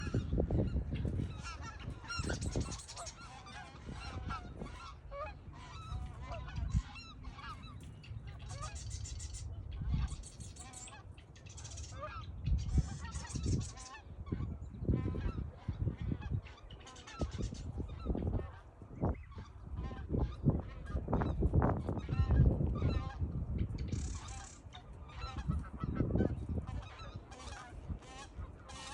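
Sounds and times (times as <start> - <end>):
geese honking: 0.0 - 28.9.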